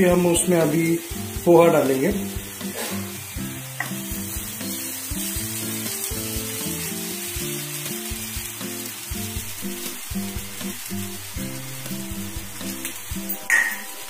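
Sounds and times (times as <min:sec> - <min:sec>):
background music with steady beat: 0:00.0 - 0:14.0
food sizzling in oil: 0:00.0 - 0:14.0.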